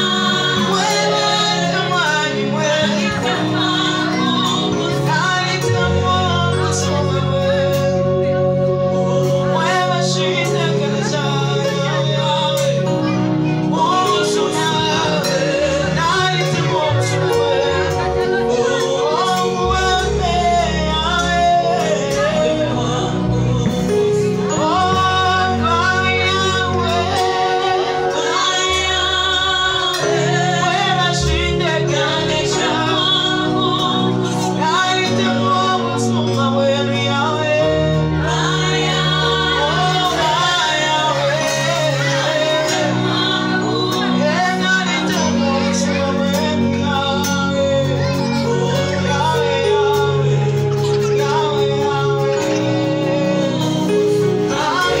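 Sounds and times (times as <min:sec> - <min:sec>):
girls' choir singing gospel: 0:00.0 - 0:55.0
instrumental accompaniment with bass: 0:00.0 - 0:55.0
woman singing lead vocal: 0:00.0 - 0:55.0.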